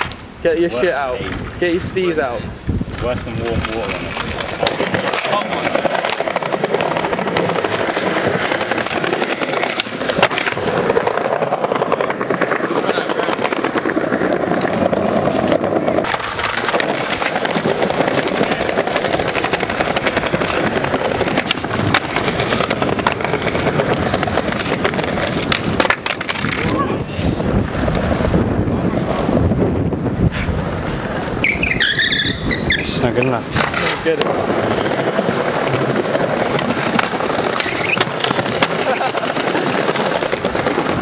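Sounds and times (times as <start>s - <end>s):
skateboard wheels rolling: 0.0s - 41.0s
skateboard clacking on ground: 2.6s - 28.4s, 30.3s - 41.0s.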